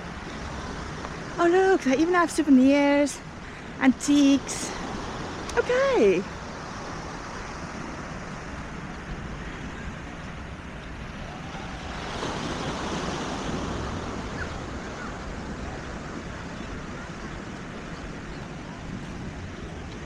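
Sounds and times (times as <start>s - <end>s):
surf: 0.0s - 20.0s
wind on microphone: 0.0s - 20.0s.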